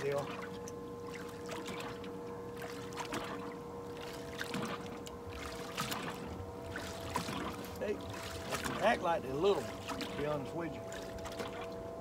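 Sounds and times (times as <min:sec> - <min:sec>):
faint hum: 0:00.0 - 0:12.0
water lapping against boat hull: 0:00.0 - 0:12.0.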